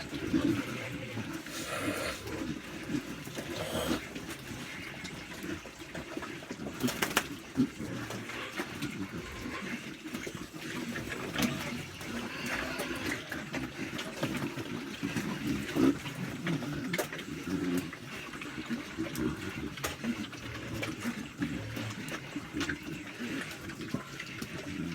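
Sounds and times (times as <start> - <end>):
pigs slurping and chewing: 0.0 - 24.9.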